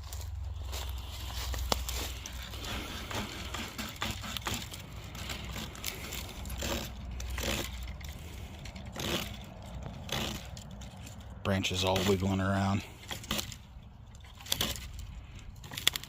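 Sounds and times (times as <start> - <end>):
saw blade rasping through branch: 1.4 - 16.0.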